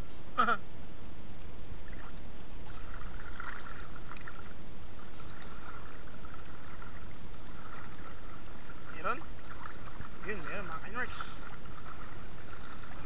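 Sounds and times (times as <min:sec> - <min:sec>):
water sloshing around wader: 0:01.8 - 0:13.0.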